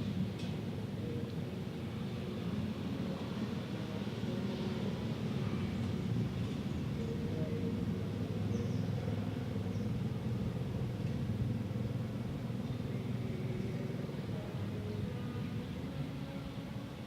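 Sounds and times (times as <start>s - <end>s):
distant city traffic rumble: 0.0s - 17.0s.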